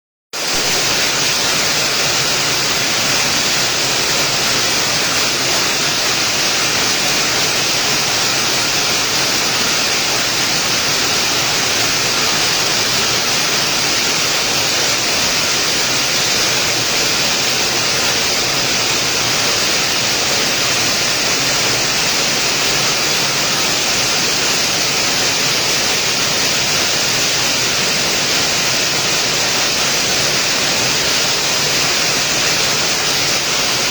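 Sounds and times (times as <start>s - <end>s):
rain falling steadily: 0.5s - 33.9s.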